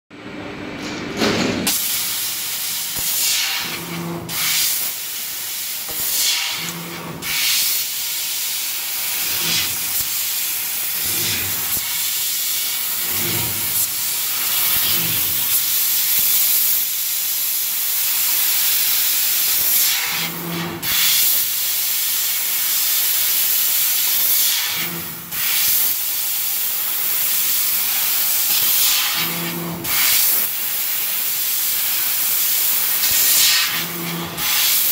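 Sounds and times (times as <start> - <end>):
laser cutting head hiss: 1.7 - 17.2, 17.8 - 34.9.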